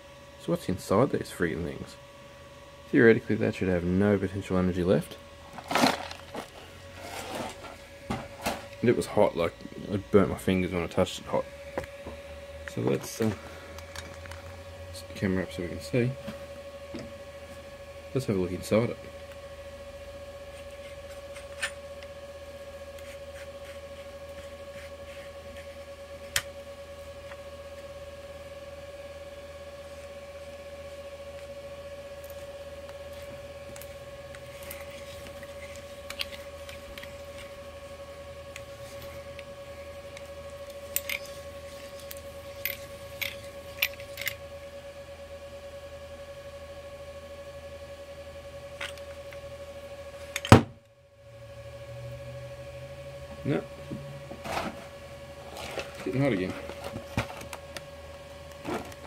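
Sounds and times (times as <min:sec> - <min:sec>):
high electrical hum: 0:00.0 - 0:59.0.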